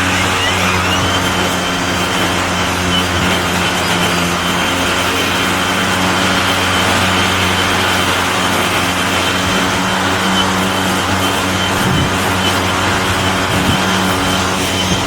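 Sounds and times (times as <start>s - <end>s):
electric lawn mower running: 0.0s - 15.0s.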